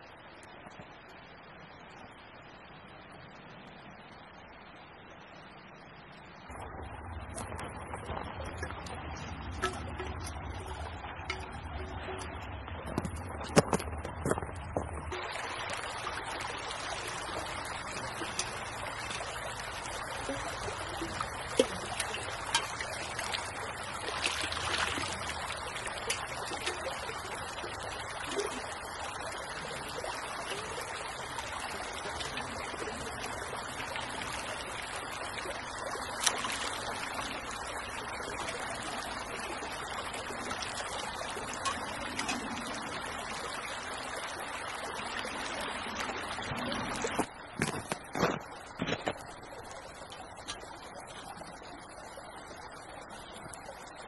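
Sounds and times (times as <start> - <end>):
creek flowing: 0.0 - 54.0.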